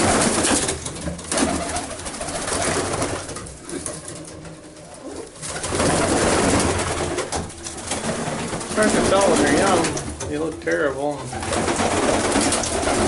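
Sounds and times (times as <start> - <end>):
pigeons cooing: 0.0 - 10.3, 11.2 - 13.0.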